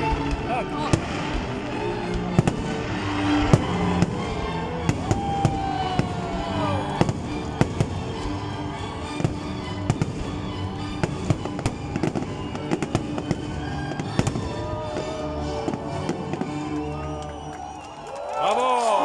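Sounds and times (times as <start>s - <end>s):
music with held notes: 0.0s - 17.8s
fireworks bangs and crackles: 0.0s - 18.2s.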